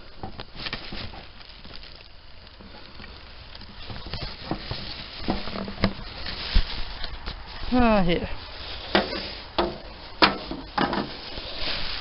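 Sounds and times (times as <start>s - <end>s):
debris rustling: 0.0s - 12.0s.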